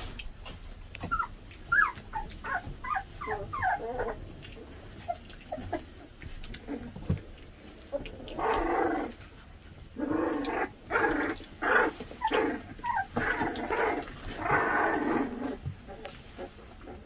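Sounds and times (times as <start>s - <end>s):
puppies growling and whining: 0.0s - 17.0s.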